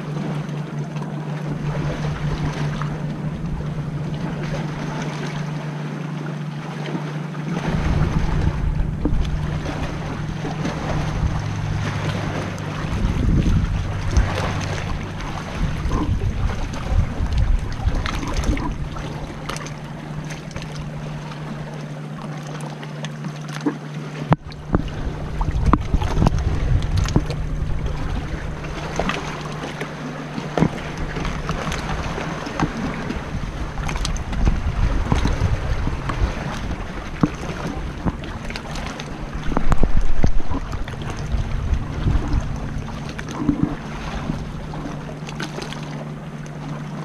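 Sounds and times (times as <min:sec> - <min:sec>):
wind rumble on microphone: 0:00.0 - 0:22.3, 0:23.6 - 0:47.0
paddle splashes: 0:00.0 - 0:47.0
water splashing against rock: 0:00.0 - 0:47.0.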